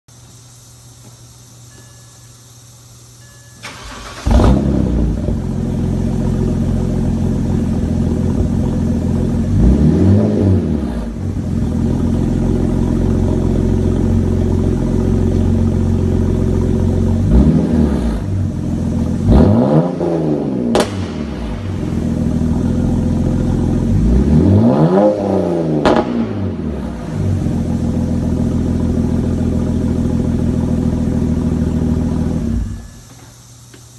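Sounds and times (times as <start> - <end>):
car engine starting and revving: 3.6 - 32.9.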